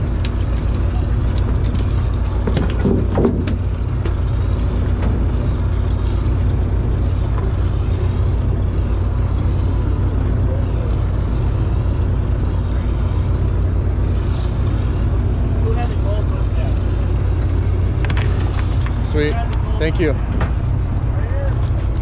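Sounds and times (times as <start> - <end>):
boat diesel engines droning: 0.0 - 22.0
water rushing along hull: 0.0 - 22.0.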